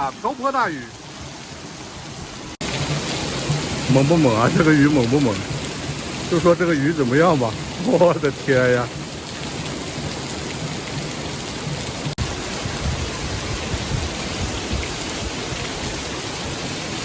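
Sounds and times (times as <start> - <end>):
torrential rain pouring: 0.0 - 17.0.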